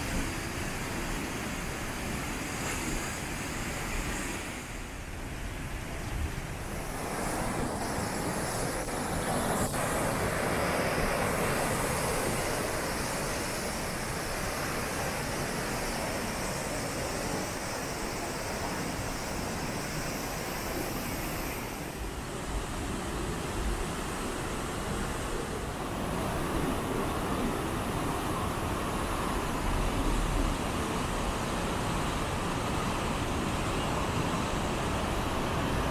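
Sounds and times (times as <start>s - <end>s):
river rushing through rapids: 0.0s - 35.9s.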